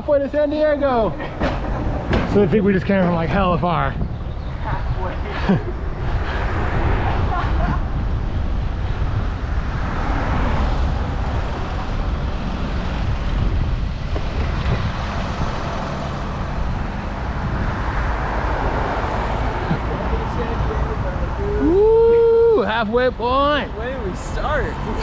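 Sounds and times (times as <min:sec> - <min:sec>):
road traffic: 0:00.0 - 0:25.0
wind on microphone: 0:01.3 - 0:22.6.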